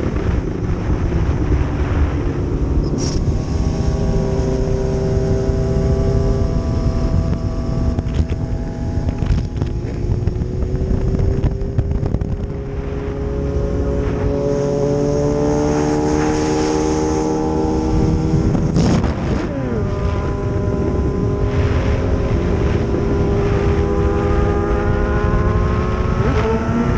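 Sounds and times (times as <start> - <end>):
low rumble: 0.0 - 26.9
motorcycle engines running: 0.0 - 26.9.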